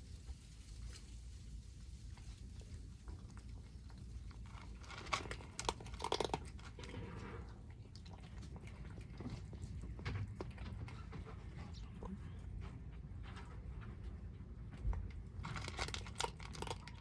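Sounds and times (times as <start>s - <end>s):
kittens chewing food: 0.1s - 17.0s.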